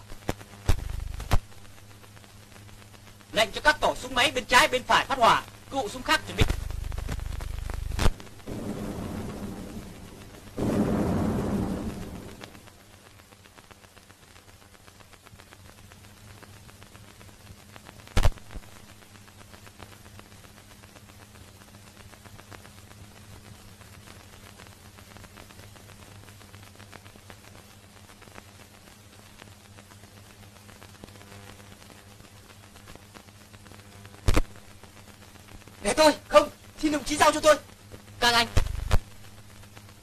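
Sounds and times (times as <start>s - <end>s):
faint crackles: 0.0s - 40.0s
film soundtrack hiss and hum: 0.0s - 40.0s.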